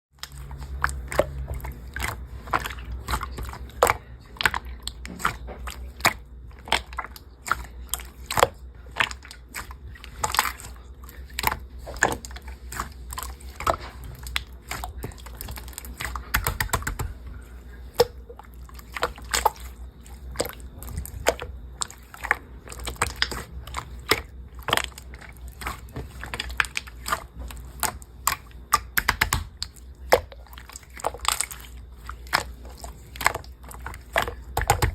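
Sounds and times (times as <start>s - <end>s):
low steady hum: 0.2s - 34.9s
slime squishing with sticky pops: 0.2s - 34.9s.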